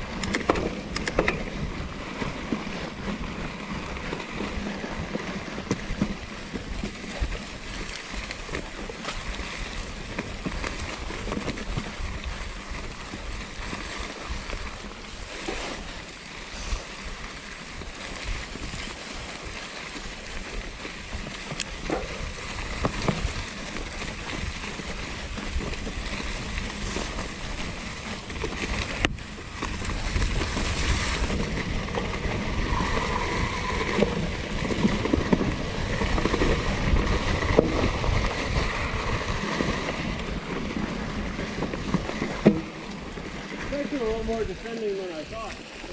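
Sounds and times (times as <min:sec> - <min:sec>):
bike tyres rushing on dirt: 0:00.0 - 0:45.9.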